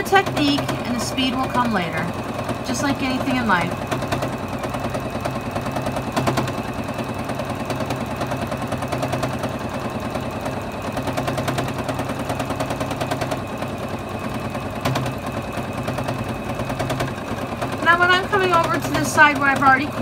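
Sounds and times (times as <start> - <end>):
sewing machine stitching: 0.0 - 20.0.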